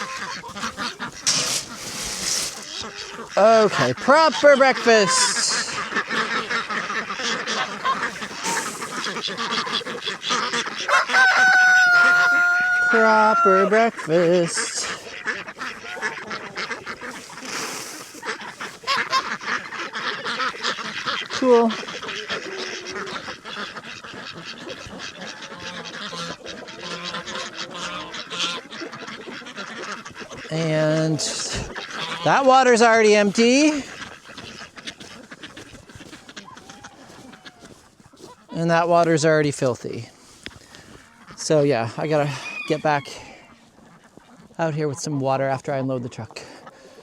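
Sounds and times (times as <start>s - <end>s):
ducks quacking: 0.0s - 47.0s.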